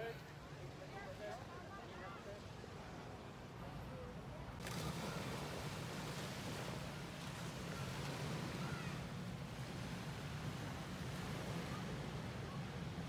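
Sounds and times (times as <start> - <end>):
surf on sandy beach: 0.0 - 13.0.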